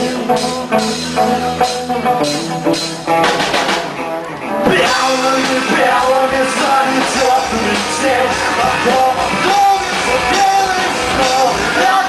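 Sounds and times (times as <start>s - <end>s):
bass guitar: 0.0s - 12.0s
drum kit: 0.0s - 12.0s
electric guitar: 0.0s - 12.0s.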